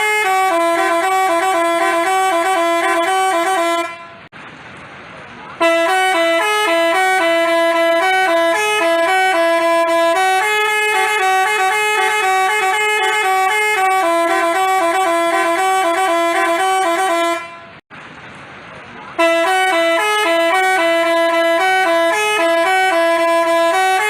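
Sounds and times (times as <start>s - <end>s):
musical bus horn playing tune: 0.0s - 4.3s, 5.6s - 17.8s, 19.2s - 24.0s.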